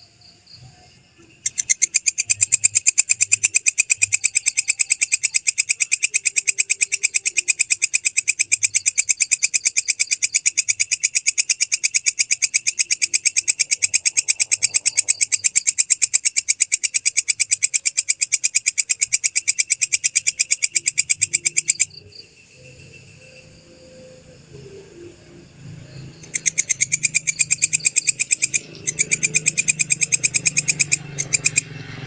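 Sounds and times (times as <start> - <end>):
katydid clicking chirps: 1.3 - 22.8, 25.9 - 32.0.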